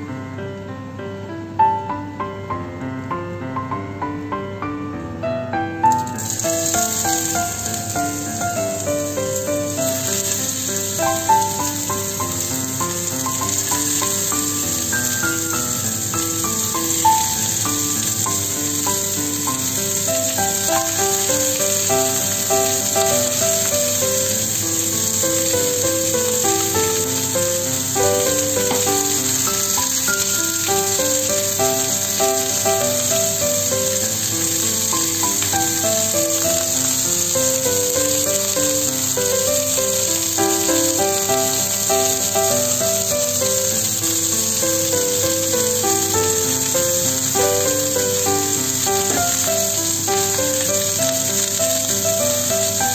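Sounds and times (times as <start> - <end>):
food sizzling in oil: 5.9 - 52.9.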